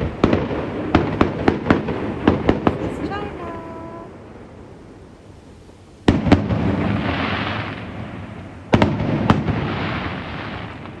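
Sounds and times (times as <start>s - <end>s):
firework bangs: 0.0s - 11.0s
firework crackling hiss: 0.0s - 11.0s.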